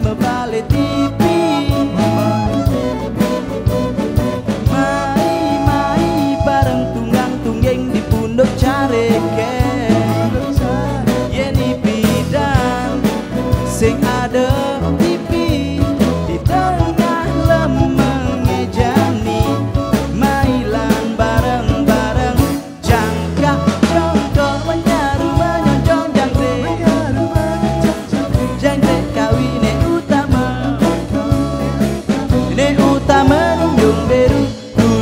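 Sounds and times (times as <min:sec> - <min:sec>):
fusion pop band music: 0:00.0 - 0:35.0
steady drum beat: 0:00.0 - 0:35.0.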